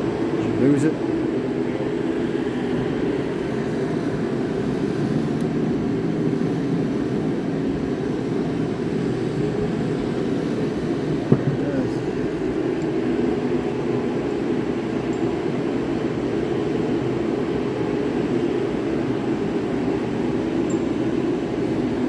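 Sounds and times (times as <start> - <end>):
low mechanical machine drone: 0.0 - 22.0.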